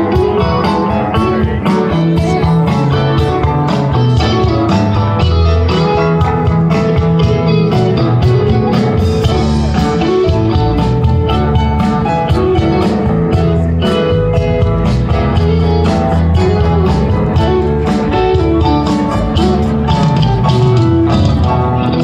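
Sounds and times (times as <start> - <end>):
distant live rock band: 0.0 - 22.0.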